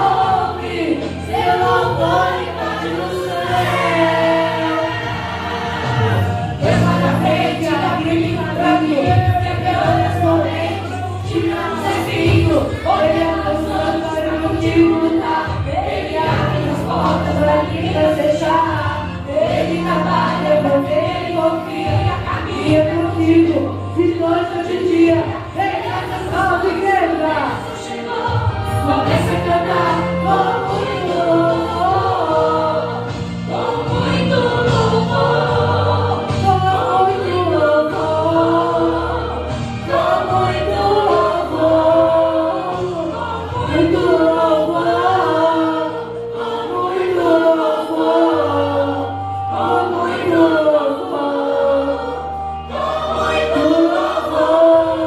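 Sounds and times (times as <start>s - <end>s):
band with bass line: 0.0s - 55.0s
voices singing worship song: 0.0s - 55.0s.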